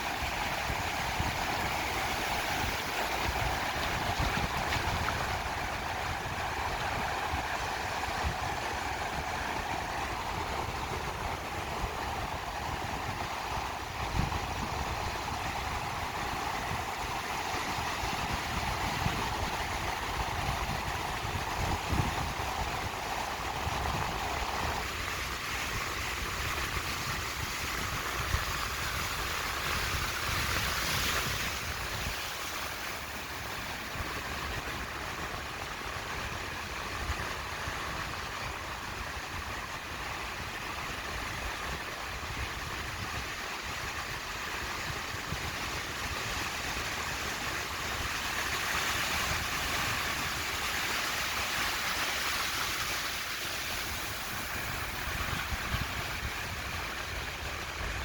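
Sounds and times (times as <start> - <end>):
waves breaking on a beach: 0.0 - 58.0.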